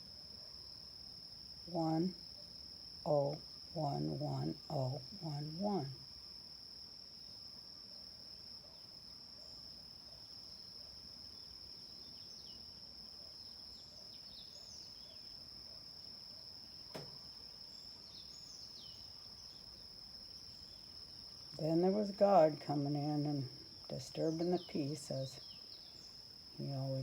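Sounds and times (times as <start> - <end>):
crickets trilling: 0.0 - 27.0.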